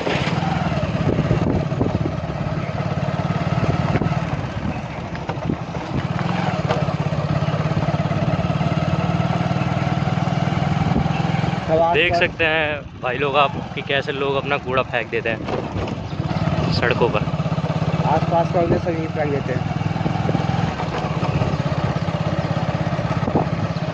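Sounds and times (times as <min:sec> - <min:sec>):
road noise: 0:00.0 - 0:23.9
vehicle engine running: 0:00.0 - 0:23.9.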